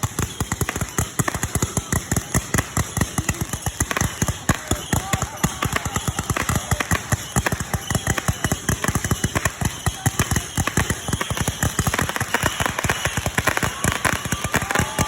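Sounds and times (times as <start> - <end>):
fireworks and firecrackers banging: 0.0 - 15.0.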